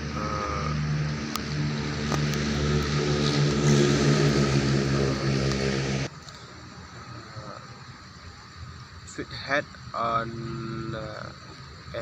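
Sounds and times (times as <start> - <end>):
motor humming with airy whoosh: 0.0 - 12.0.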